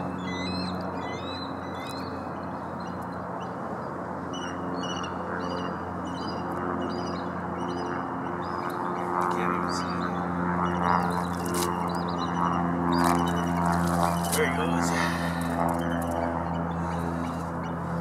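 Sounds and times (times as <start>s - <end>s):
birds chirping: 0.0s - 18.0s
low droning hum and hiss: 0.0s - 18.0s.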